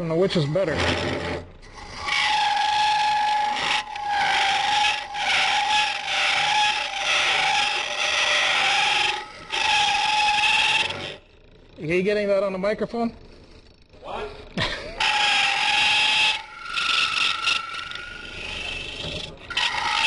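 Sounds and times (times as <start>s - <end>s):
lathe tool squealing on wood: 0.0s - 11.3s, 15.0s - 20.0s.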